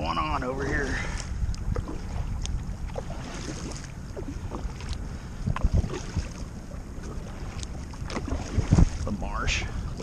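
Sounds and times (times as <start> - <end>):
wind rumble on microphone: 0.0 - 10.0
paddle splashing in water: 0.6 - 9.2.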